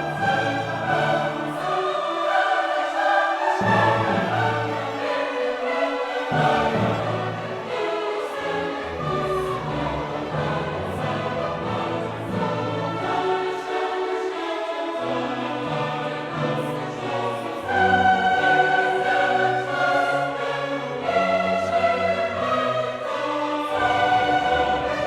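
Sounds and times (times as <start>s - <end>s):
choir singing with orchestra: 0.0s - 25.0s.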